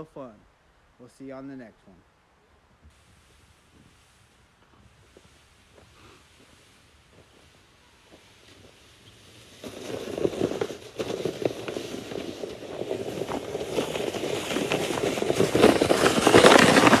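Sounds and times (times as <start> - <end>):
boots crunching on snow: 2.9 - 17.0
sled scraping over snow: 2.9 - 17.0.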